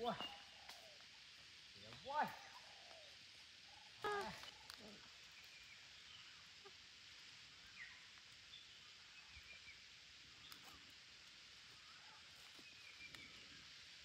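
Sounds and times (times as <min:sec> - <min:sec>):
faint bird chirps: 0:00.0 - 0:14.0
faint outdoor hiss: 0:00.0 - 0:14.0.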